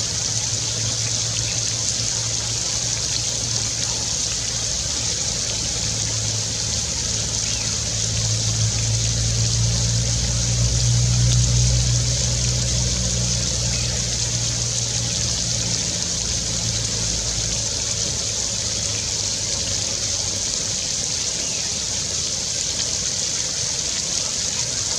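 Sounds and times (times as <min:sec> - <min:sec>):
flowing stream water: 0:00.0 - 0:24.9
low engine hum: 0:00.0 - 0:24.9.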